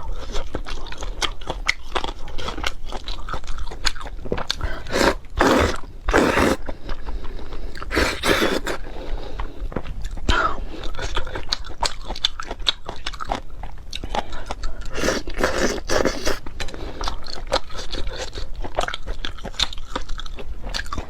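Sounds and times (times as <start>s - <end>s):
person chewing and biting: 0.0s - 7.0s, 7.8s - 9.5s, 11.2s - 21.0s.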